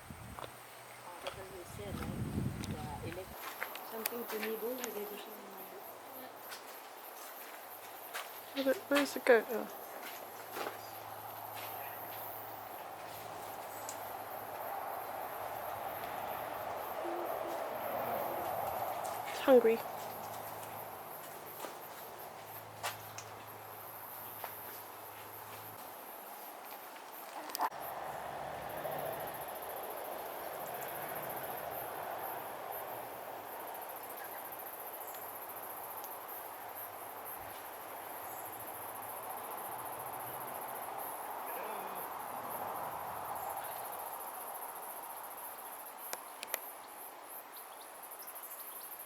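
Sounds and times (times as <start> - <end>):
soft outdoor hiss: 0.0 - 49.0
insects trilling high: 3.3 - 49.0.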